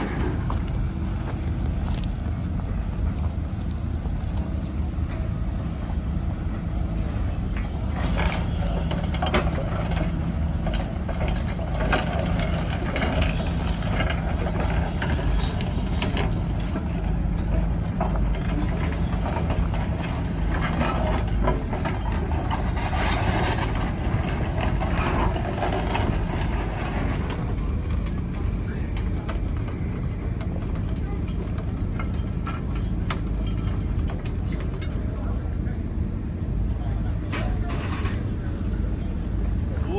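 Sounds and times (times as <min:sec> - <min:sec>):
steady hum: 0:00.0 - 0:17.1, 0:18.3 - 0:35.2, 0:36.4 - 0:39.9
diesel engine running: 0:00.0 - 0:39.9.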